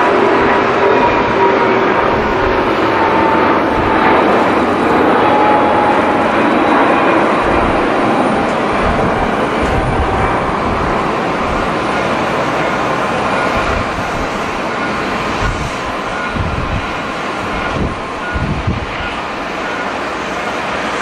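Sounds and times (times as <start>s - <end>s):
jet engines roaring at takeoff: 0.0s - 21.0s
low rumbling: 2.0s - 19.1s.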